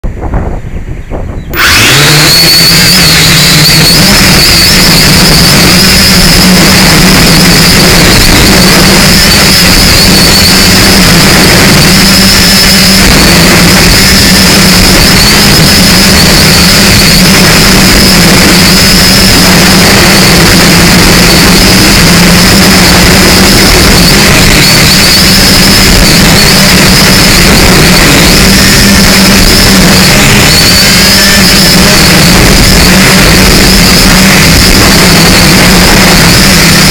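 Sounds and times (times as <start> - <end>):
drone motors buzzing: 0.0 - 36.9
wind noise: 0.0 - 36.9.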